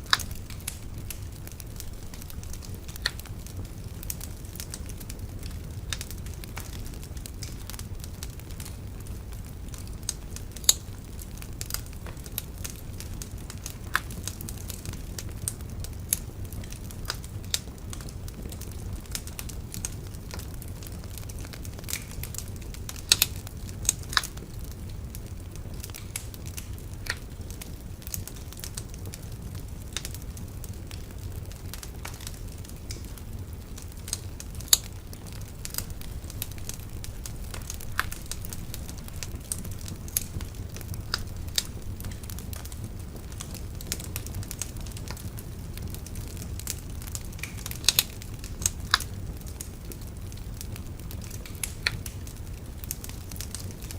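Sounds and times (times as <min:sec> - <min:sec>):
bonfire crackling: 0:00.0 - 0:53.9.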